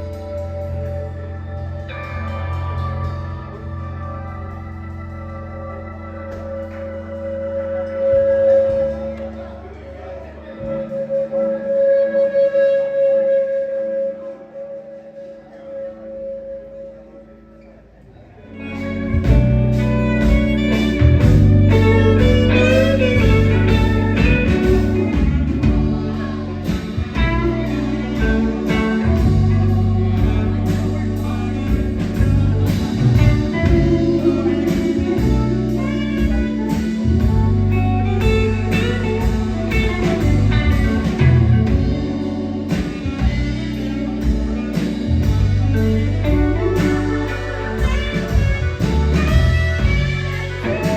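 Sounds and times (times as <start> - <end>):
live blues band: 0.0 - 17.7, 18.4 - 50.9.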